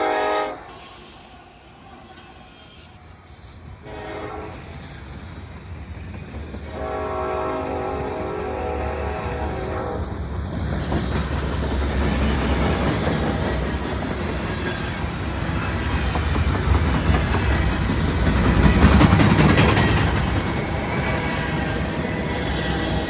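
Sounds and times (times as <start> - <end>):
diesel locomotive rumble: 3.6 - 23.0
train wheels clacking over rail joints: 3.7 - 23.0.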